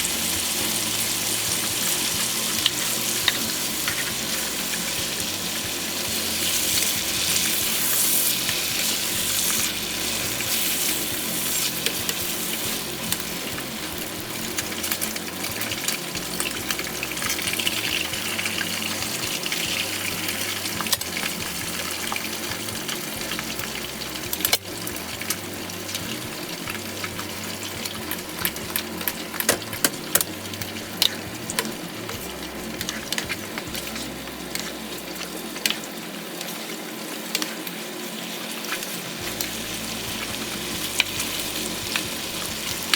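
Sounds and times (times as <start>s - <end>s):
food sizzling in a pan: 0.0s - 42.9s
utensil clicking against pan: 0.9s - 36.6s.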